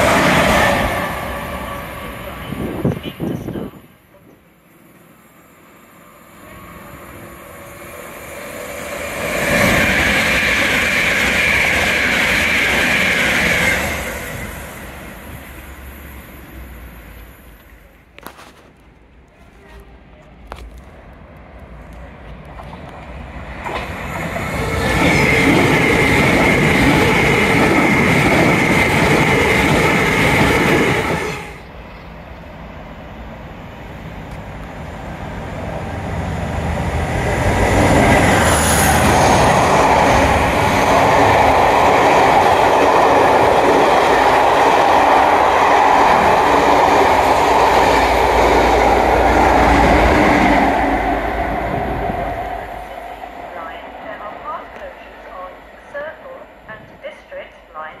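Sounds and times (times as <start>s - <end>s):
electric train passing with whine: 0.0s - 18.2s, 20.8s - 58.0s
diesel locomotive hauling coaches: 0.0s - 58.0s.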